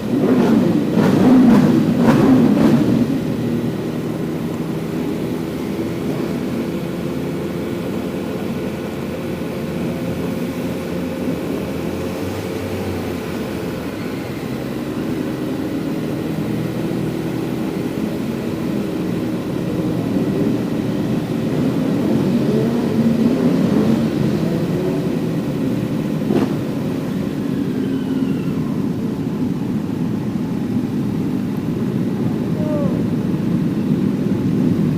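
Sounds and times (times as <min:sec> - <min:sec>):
motorcycle engine running and revving: 0:00.0 - 0:34.9.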